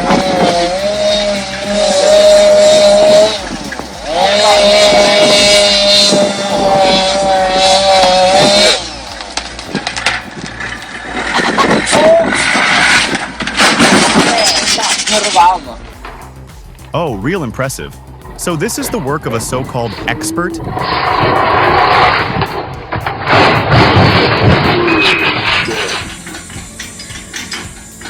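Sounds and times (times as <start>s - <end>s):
small engine running at high revs: 0.0s - 14.3s, 18.2s - 28.0s.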